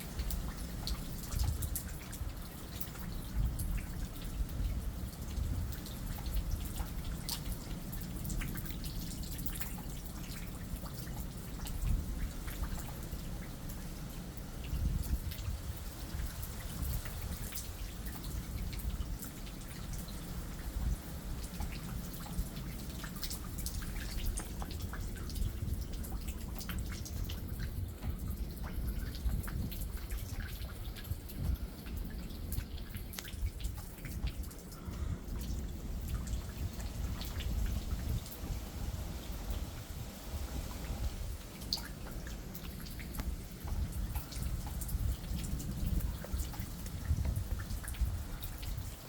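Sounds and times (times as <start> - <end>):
raindrops ticking on a surface: 0.0 - 49.0.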